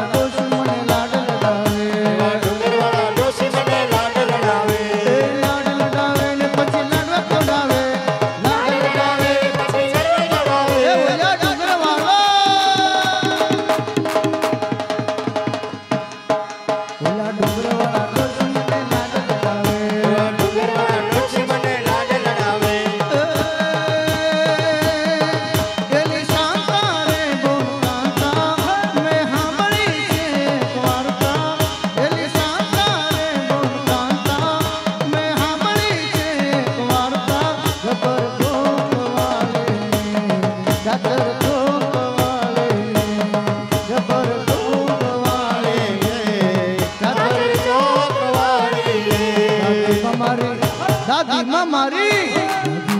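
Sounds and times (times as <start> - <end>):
person singing: 0.0 - 14.3, 17.0 - 52.9
hand drum beat: 0.0 - 16.0, 17.4 - 52.9
harmonium chords: 0.0 - 52.9.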